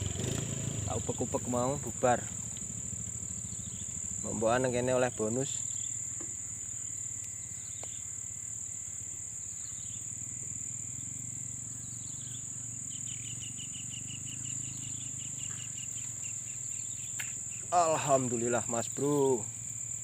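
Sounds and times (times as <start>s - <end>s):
insects shrilling: 0.0s - 20.0s.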